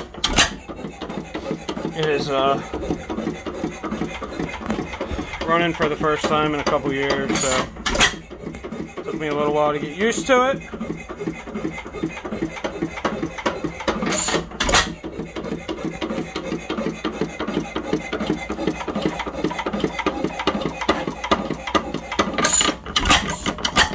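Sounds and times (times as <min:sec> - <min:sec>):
engine mechanical clatter: 0:00.0 - 0:23.9
loud engine strokes: 0:00.0 - 0:23.9.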